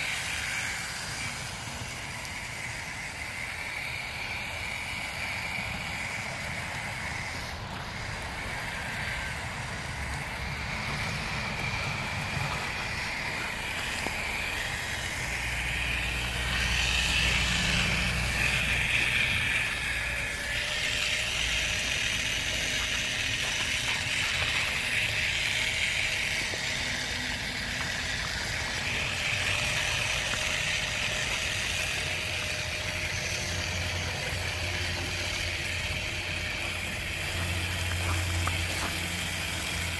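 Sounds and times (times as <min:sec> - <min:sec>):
toy car motor and gears whining: 0:00.0 - 0:39.9.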